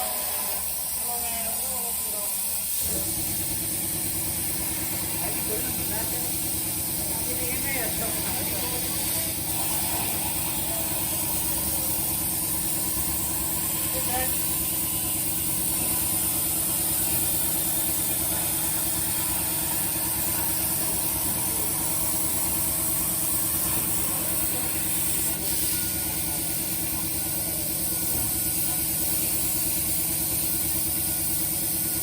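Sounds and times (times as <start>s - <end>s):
plasma arc hissing: 0.0s - 32.0s.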